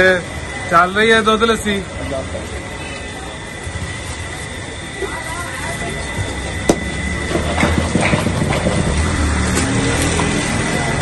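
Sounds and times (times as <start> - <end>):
low rumble of busy surroundings: 0.0 - 11.0.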